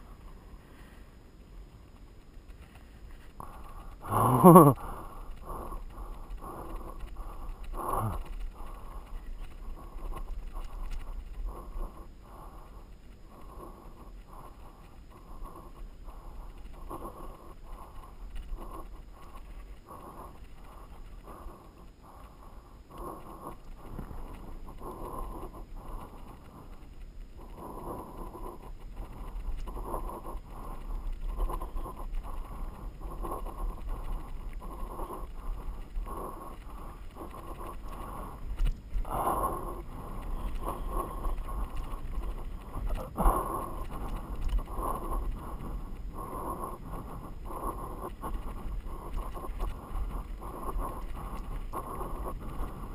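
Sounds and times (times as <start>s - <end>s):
bike rumble on dirt trail: 0.0s - 52.9s.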